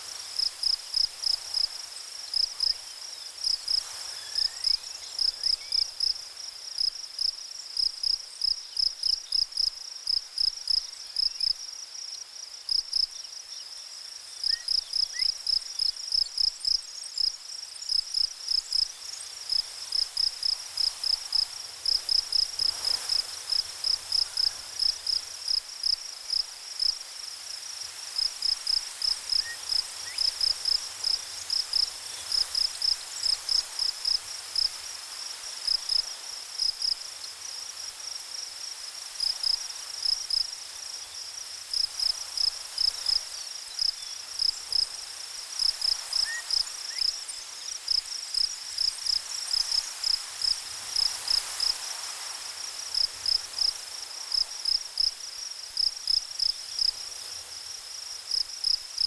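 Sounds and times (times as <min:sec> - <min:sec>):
cricket chirping: 0:00.0 - 0:59.0
faint background hiss: 0:00.0 - 0:59.0.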